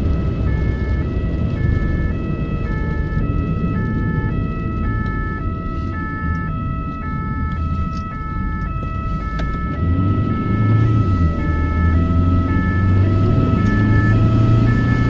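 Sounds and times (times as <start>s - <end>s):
ambulance siren: 0.0s - 15.0s
road and engine rumble: 0.0s - 15.0s.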